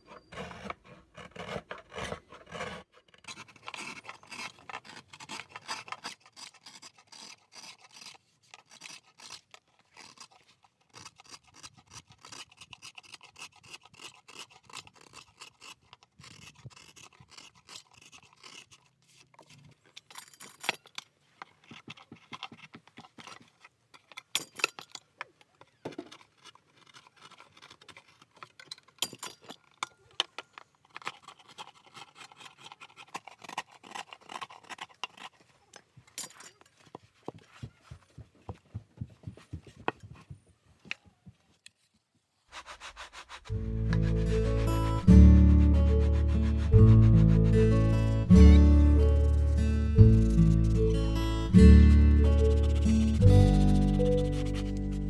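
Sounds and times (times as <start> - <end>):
hand tools scraping wood: 0.0 - 55.0.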